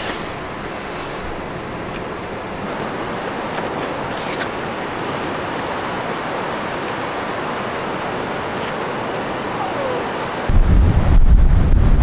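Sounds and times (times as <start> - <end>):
strong wind: 0.0 - 12.0.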